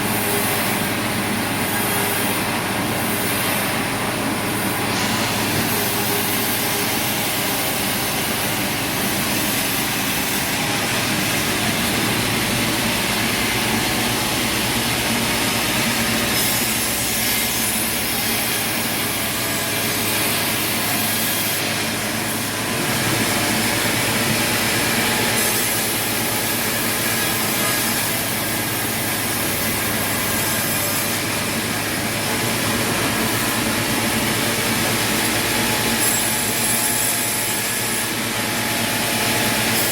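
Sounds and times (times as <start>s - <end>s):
saw cutting through wood: 0.0s - 39.9s.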